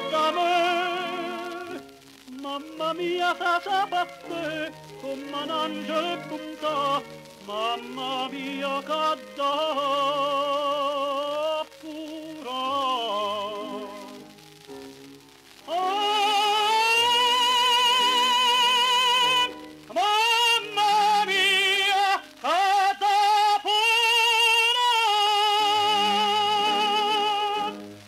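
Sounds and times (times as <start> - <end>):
operatic tenor singing: 0.0 - 14.1, 15.6 - 27.9
orchestra: 0.0 - 28.0.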